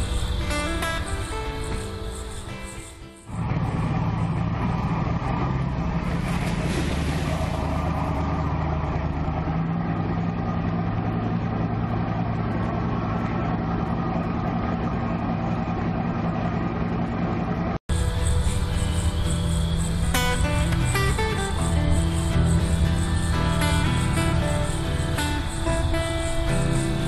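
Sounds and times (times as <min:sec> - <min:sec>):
boat motor droning: 0:00.0 - 0:27.0
water noise: 0:00.0 - 0:27.0
wind: 0:00.0 - 0:27.0.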